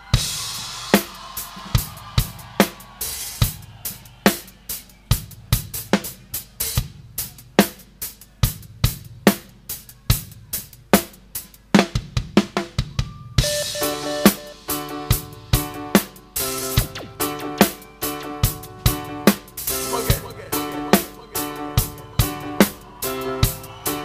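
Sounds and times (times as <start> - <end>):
drum kit playing: 0.0 - 24.0.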